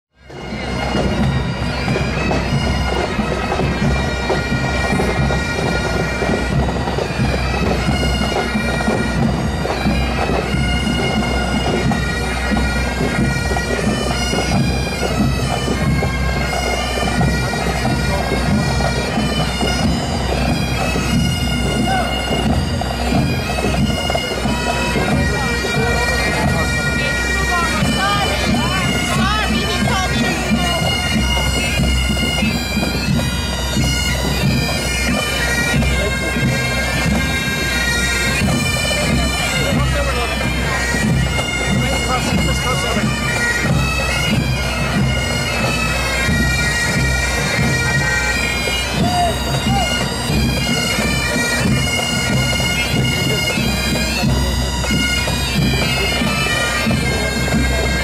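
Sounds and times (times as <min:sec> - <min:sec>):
bagpipes playing melody: 0:00.1 - 0:58.0
pipe band drums: 0:00.2 - 0:58.0.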